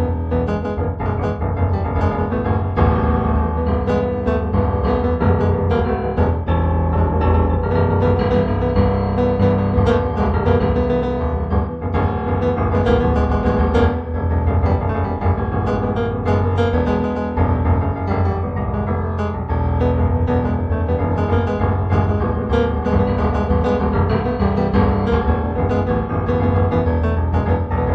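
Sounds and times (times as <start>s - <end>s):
improvised piano piece: 0.0s - 27.9s.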